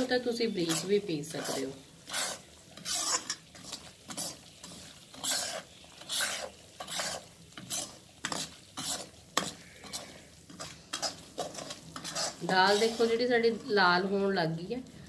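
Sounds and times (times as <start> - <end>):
metal ladle scraping pan: 0.0 - 14.0
low sizzle: 0.0 - 15.0.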